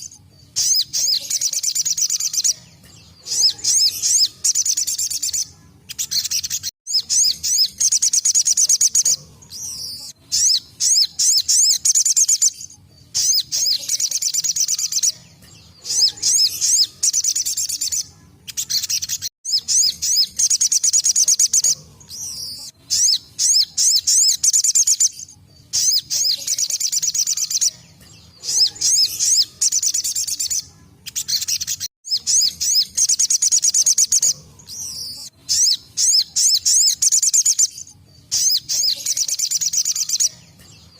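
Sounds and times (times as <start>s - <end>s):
bird singing fast trills: 0.0s - 40.9s.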